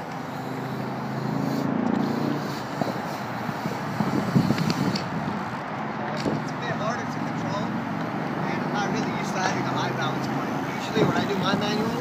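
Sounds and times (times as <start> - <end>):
city background noise: 0.0 - 12.0
vehicle engine passing: 0.1 - 12.0.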